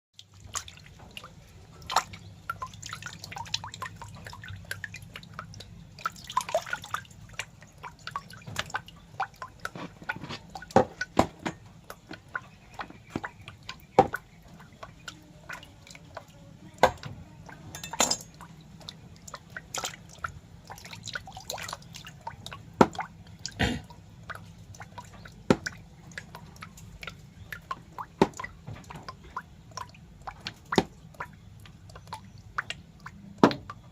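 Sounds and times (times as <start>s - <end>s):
wet drip-like clicks: 0.2s - 33.9s.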